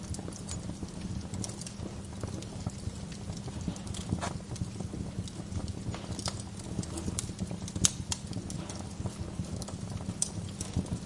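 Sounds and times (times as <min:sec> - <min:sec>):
burning logs crackling and popping: 0:00.0 - 0:11.0
fire flames rumbling: 0:00.0 - 0:11.0.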